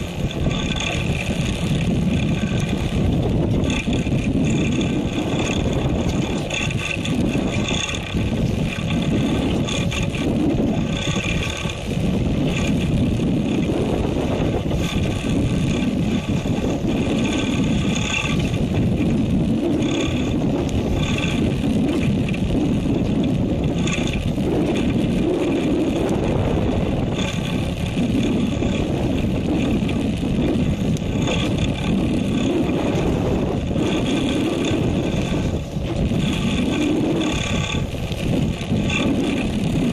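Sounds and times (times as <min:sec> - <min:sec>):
boat engine running: 0:00.0 - 0:39.9
wind and sea rushing: 0:00.0 - 0:39.9.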